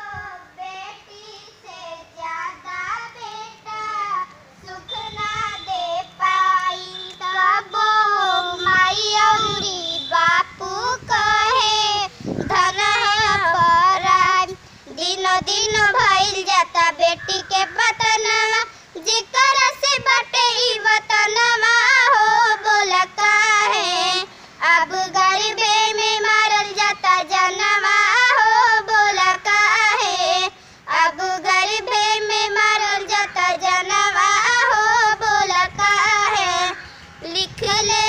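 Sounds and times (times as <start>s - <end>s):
girl singing unaccompanied: 0.0s - 38.0s.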